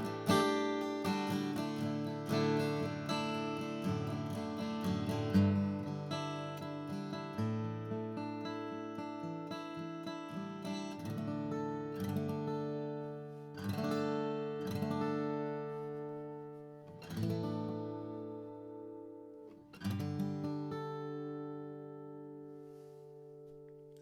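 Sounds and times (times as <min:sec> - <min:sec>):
acoustic guitar chords strummed: 0:00.0 - 0:23.8.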